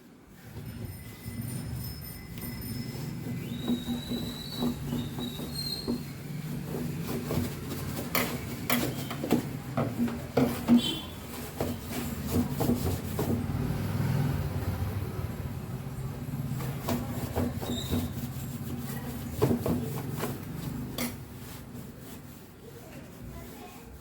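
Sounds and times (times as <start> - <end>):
cloth scrubbing metal hood: 0.2 - 14.6, 15.2 - 24.0
knocks and scrapes on metal: 0.3 - 13.8, 16.3 - 24.0.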